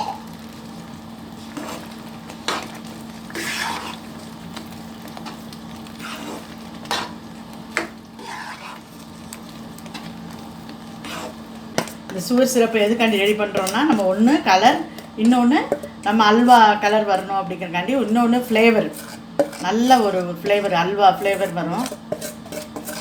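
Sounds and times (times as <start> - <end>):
ghee sizzling in pan: 0.0 - 23.0
spatula scraping pan: 1.4 - 23.0.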